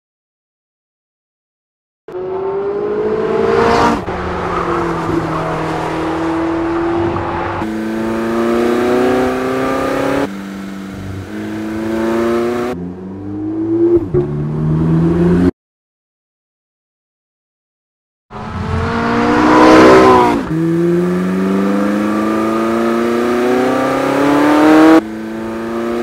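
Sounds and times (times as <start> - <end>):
car engine revving hard: 2.2 - 15.5, 18.4 - 26.0.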